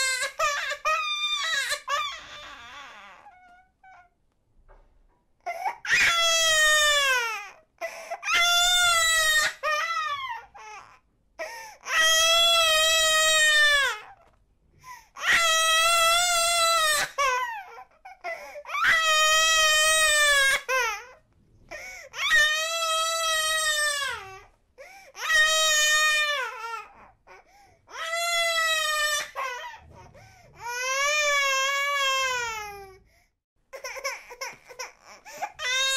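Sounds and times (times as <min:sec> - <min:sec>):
baby crying: 0:00.0 - 0:04.2, 0:05.4 - 0:14.3, 0:15.2 - 0:21.2, 0:21.8 - 0:24.5, 0:25.1 - 0:33.0, 0:33.7 - 0:35.9.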